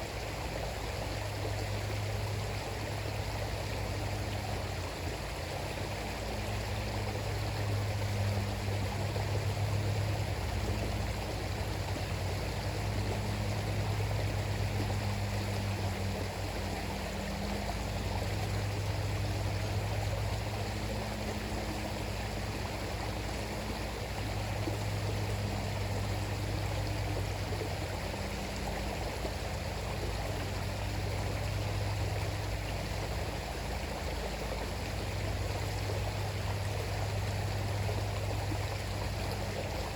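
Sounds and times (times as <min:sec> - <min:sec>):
low steady hum: 0:00.0 - 0:39.9
river water rushing: 0:00.0 - 0:39.9.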